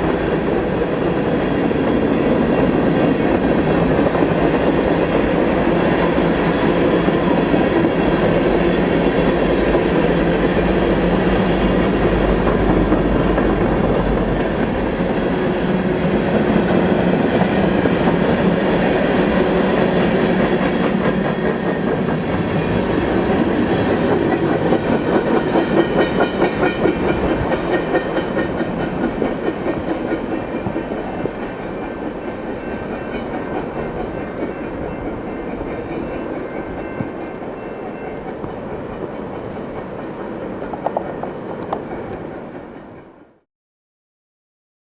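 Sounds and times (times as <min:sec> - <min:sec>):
train wheels clicking over rail joints: 0:00.0 - 0:43.1.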